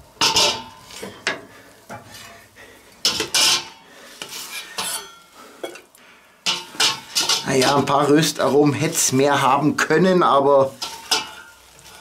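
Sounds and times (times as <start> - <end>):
wooden spatula scraping a pot: 0.2 - 12.0.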